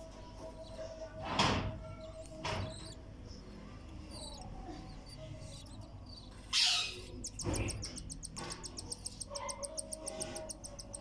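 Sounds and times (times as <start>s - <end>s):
chicks peeping: 1.9s - 11.0s.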